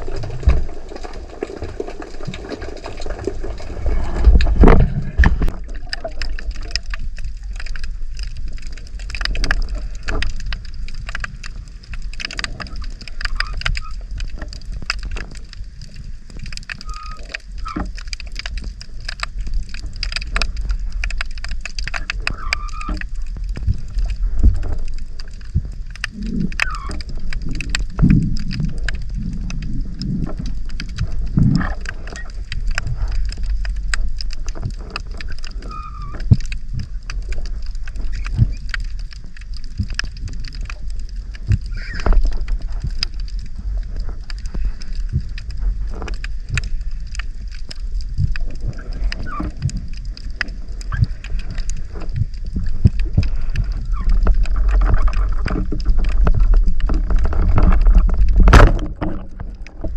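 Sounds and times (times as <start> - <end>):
underwater water rumble: 0.0 - 59.9
water gurgling: 0.0 - 59.9
small clicks: 5.4 - 59.9.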